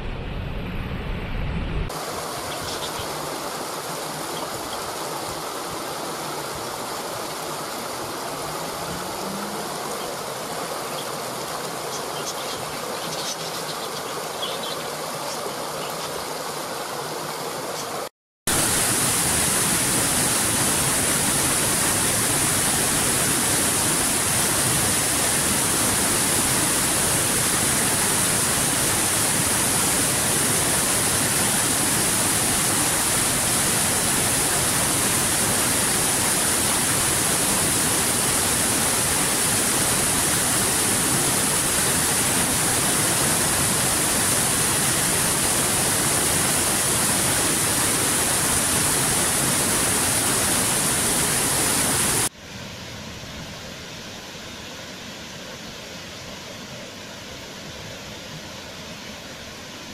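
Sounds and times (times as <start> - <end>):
waterfall rushing: 1.9 - 52.3.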